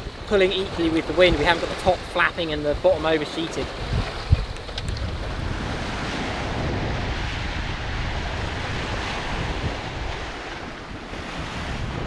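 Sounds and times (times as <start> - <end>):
waves rushing along hull: 0.0 - 12.0
wind buffeting microphone: 0.0 - 12.0.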